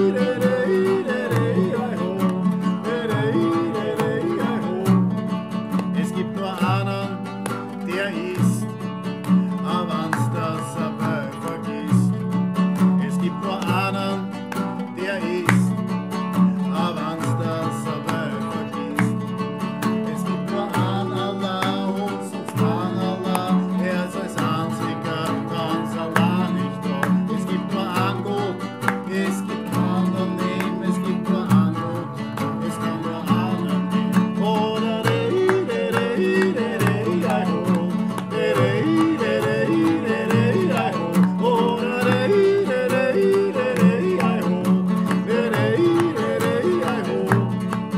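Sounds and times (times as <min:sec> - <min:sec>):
strummed acoustic guitar music: 0:00.0 - 0:47.9.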